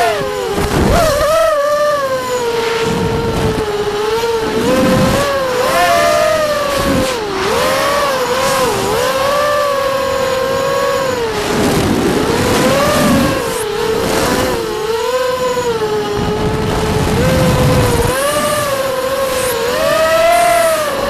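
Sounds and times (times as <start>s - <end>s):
drone motors whining: 0.0s - 21.0s
wind gusts and prop-wash: 0.0s - 21.0s.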